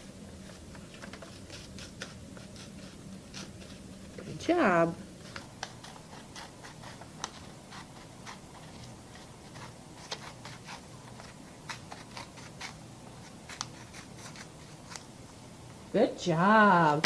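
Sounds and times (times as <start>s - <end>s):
scissors snipping paper: 0.4s - 4.4s, 5.2s - 15.1s.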